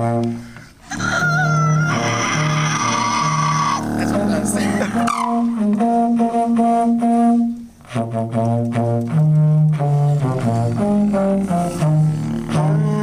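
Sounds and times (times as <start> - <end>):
trombone playing held notes: 0.0 - 13.0.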